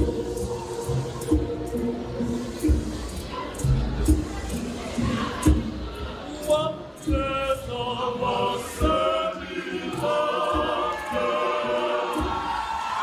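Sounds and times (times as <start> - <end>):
choir singing in parts: 0.0 - 4.2, 6.4 - 13.0.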